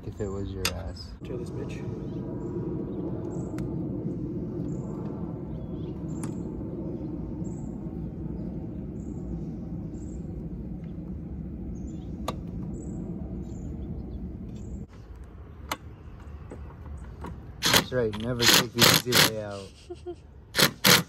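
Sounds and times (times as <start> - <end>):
low outdoor noise: 0.0 - 21.0.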